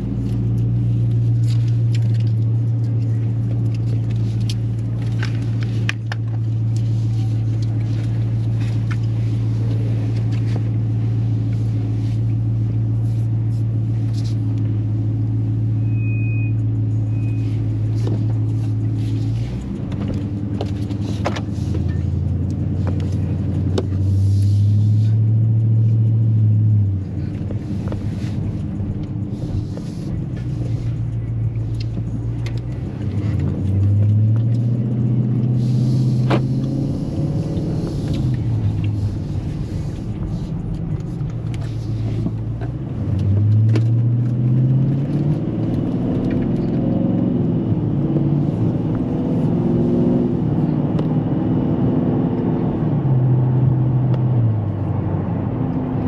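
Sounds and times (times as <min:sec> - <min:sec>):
car engine idling and accelerating: 0:00.0 - 0:56.0.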